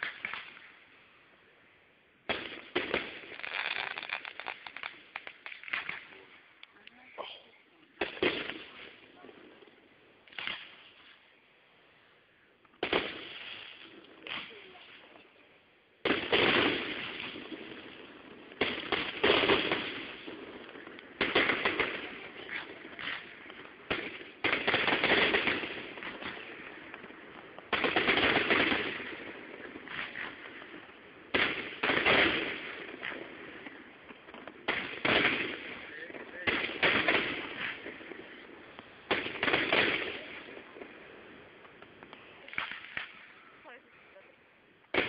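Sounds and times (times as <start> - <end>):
fireworks bursting with rumble: 0.0 - 45.0.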